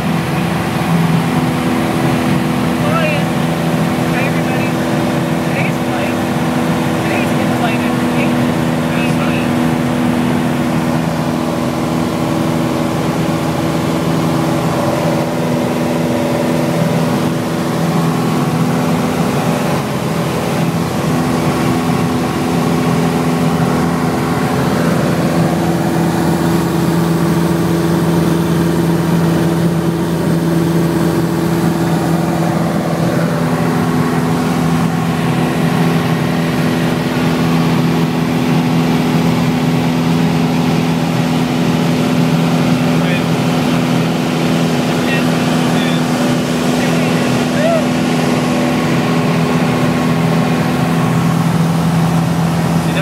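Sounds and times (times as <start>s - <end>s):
propeller airplane engine drone: 0.0s - 53.0s.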